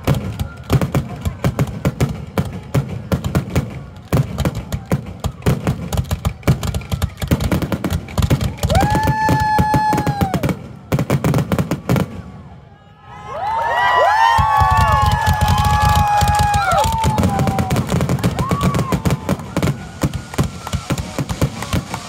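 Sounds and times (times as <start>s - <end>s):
fireworks bursting: 0.0s - 12.6s, 14.2s - 22.0s.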